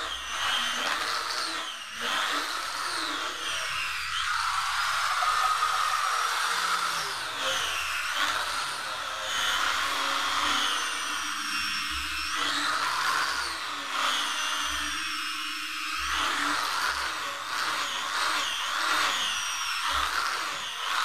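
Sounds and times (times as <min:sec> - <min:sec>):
angle grinder sanding wood: 0:00.0 - 0:21.0.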